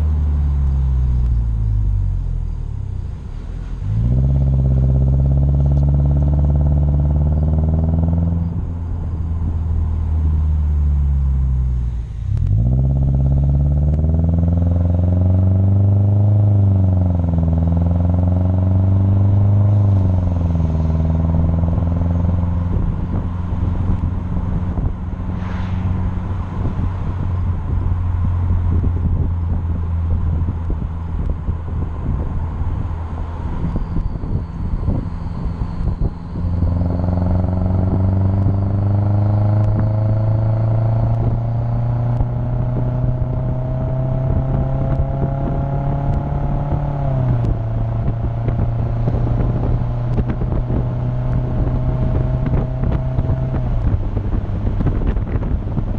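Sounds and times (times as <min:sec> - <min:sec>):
car engine exhaust note: 0:00.0 - 0:55.9
road and wind noise: 0:00.0 - 0:55.9.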